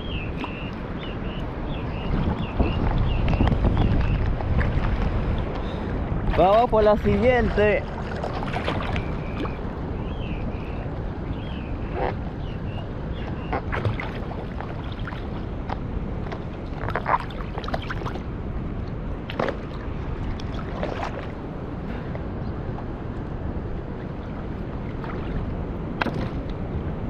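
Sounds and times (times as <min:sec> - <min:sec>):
water splashing and sloshing: 0:00.0 - 0:27.0
wind rumble on microphone: 0:00.0 - 0:27.0.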